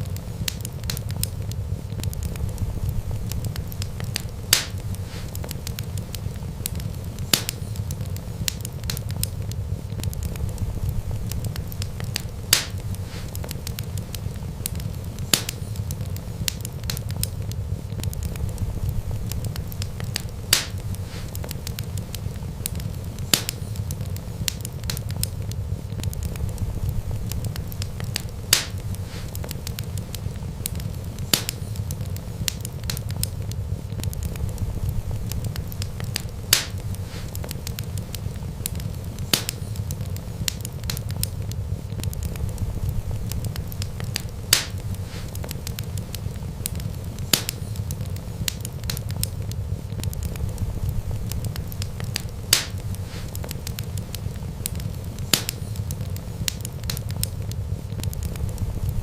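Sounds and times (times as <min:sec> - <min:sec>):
fire rumbling: 0:00.0 - 0:59.0
wood fire crackling: 0:00.0 - 0:59.0
sharp pops of fire: 0:00.1 - 0:10.6, 0:11.2 - 0:18.6, 0:19.2 - 0:26.6, 0:27.2 - 0:58.7.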